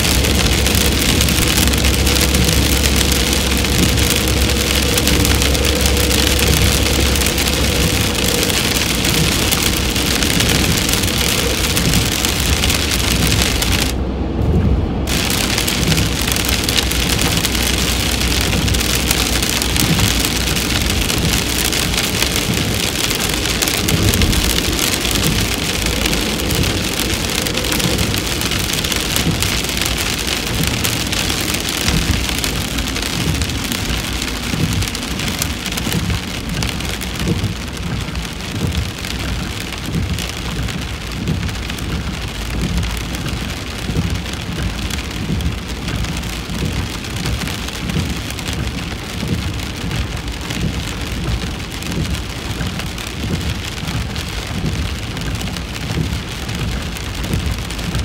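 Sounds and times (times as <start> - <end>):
low rumble: 0.0 - 58.0
rain on a car roof: 0.0 - 58.0.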